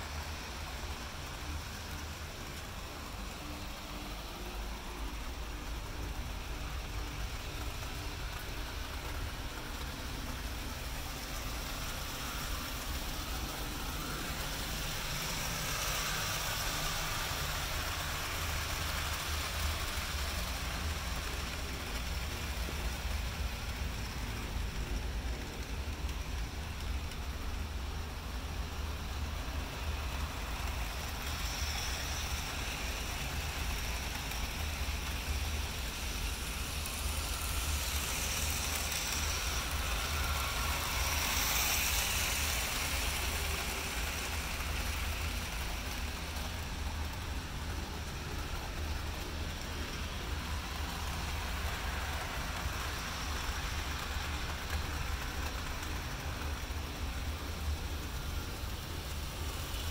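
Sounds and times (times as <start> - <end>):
constant low hum: 0.0 - 59.9
model train wheels rumbling on track: 0.0 - 59.9.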